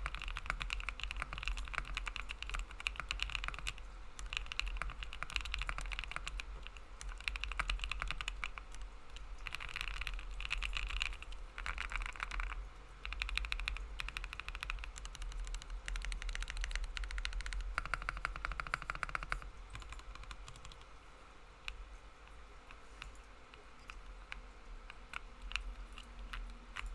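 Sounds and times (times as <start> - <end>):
fast mechanical keyboard typing: 0.0 - 21.0, 22.5 - 26.9.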